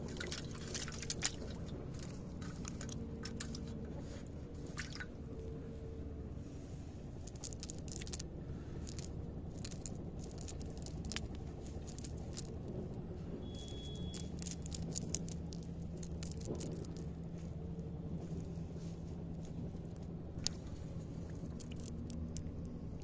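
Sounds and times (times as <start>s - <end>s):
wet net rustling and crackling: 0.0s - 5.4s, 7.1s - 12.7s, 13.6s - 23.0s
steady low hum: 0.0s - 23.0s.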